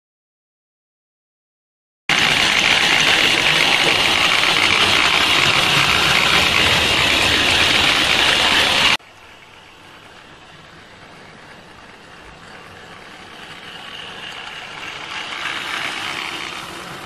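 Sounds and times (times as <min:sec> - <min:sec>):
model train motor whirring: 0:02.1 - 0:17.0
wheels rattling on track: 0:02.1 - 0:17.0.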